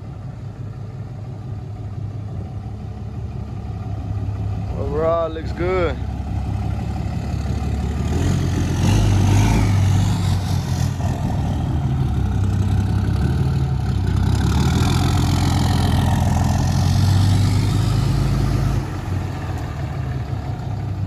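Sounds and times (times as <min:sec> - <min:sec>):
truck diesel engine humming: 0:00.0 - 0:21.0.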